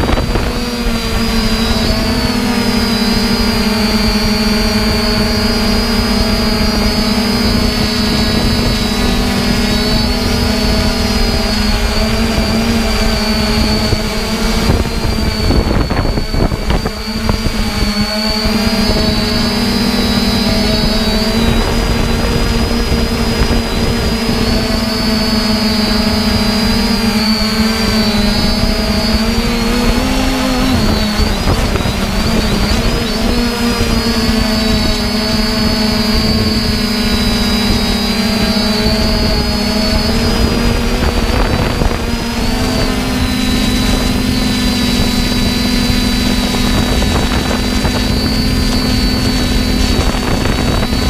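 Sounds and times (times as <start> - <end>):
drone propellers whining: 0.0 - 51.0
wind rumble on microphone: 0.0 - 51.0.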